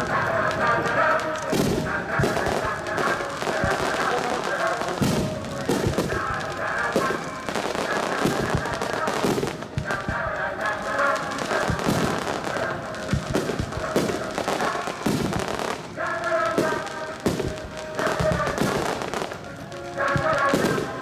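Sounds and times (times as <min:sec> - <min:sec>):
firework shells bursting: 0:00.0 - 0:21.0
music playing: 0:00.0 - 0:21.0.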